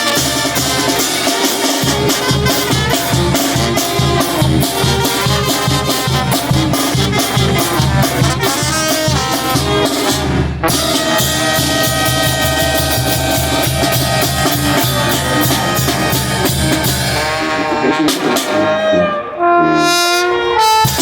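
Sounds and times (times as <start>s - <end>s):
drums: 0.0s - 18.9s, 19.9s - 21.0s
brass band playing: 0.0s - 21.0s.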